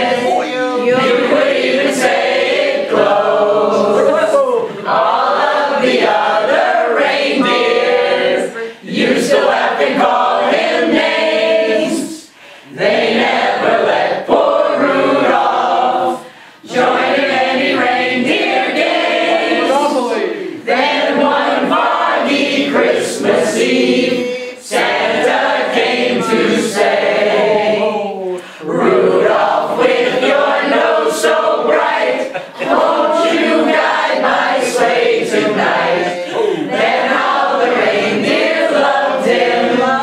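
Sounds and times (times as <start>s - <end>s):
group of adults singing: 0.0s - 40.0s.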